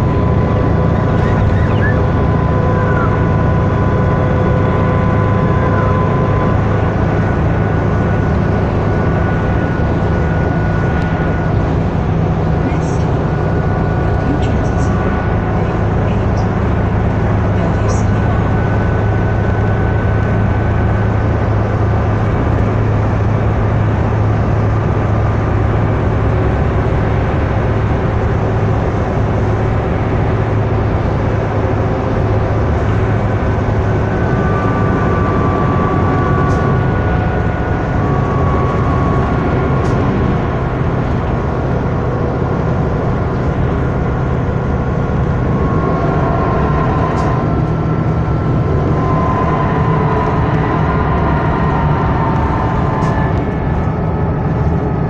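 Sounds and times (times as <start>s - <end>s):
bus diesel engine drone: 0.0s - 55.0s
faint whining tones: 0.0s - 55.0s
road and tyre noise: 0.0s - 55.0s.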